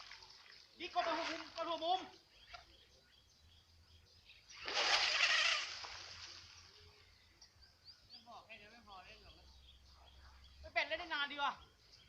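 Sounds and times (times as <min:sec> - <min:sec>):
faint bird chirps: 0:00.1 - 0:12.0.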